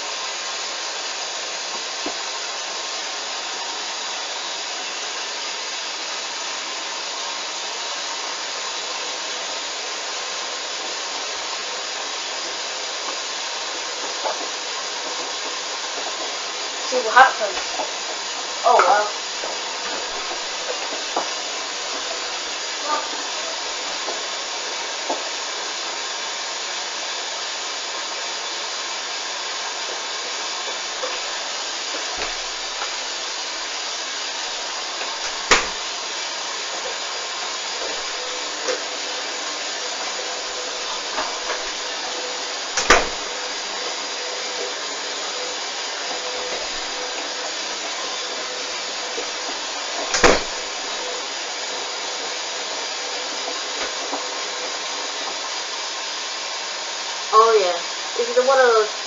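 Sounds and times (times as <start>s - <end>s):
washing machine running: 0.0s - 59.0s.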